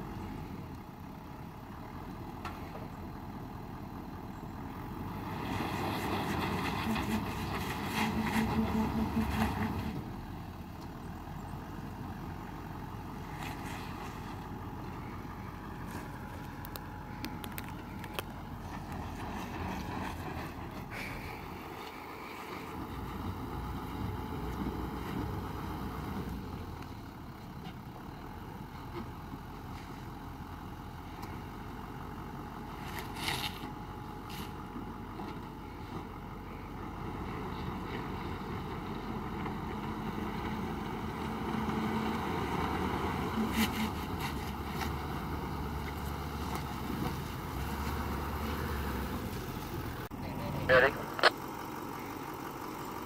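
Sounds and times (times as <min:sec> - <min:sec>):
vehicle engine running: 0:00.0 - 0:53.0
tyres through mud and stones: 0:04.1 - 0:53.0.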